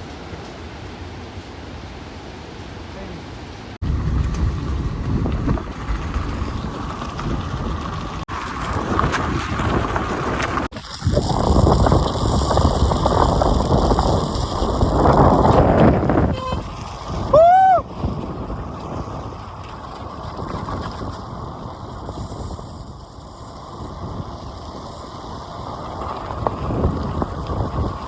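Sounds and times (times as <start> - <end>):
wind noise on microphone: 3.8 - 28.0.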